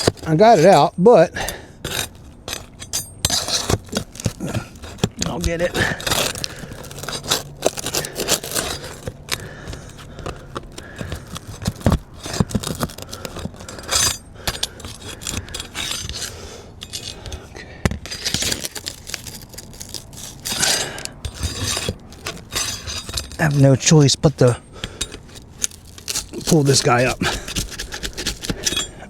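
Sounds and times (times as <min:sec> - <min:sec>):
metal tool scraping shingles: 0:00.0 - 0:29.0.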